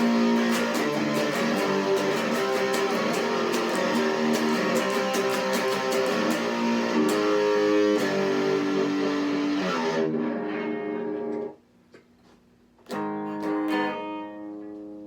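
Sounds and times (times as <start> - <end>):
electric guitar through amplifier: 0.0 - 11.6, 12.8 - 15.0.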